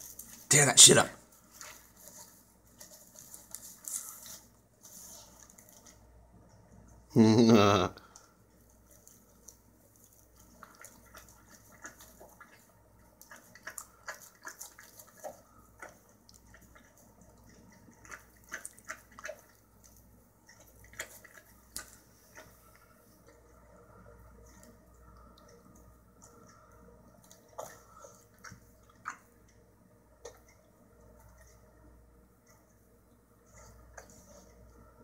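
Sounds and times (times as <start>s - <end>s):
dog licking and chewing: 0.0s - 7.0s, 8.5s - 34.8s.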